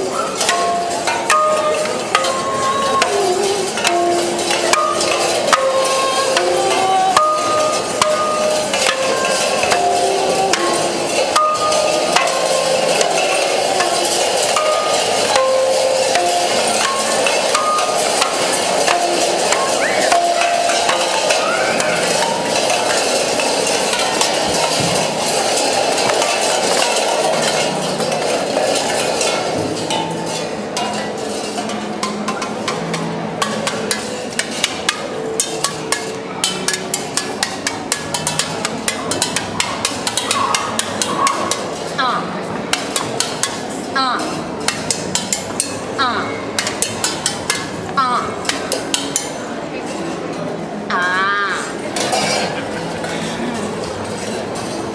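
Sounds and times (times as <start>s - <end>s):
stick tapping tin cans: 0.2s - 42.0s, 42.7s - 45.9s, 46.6s - 49.4s.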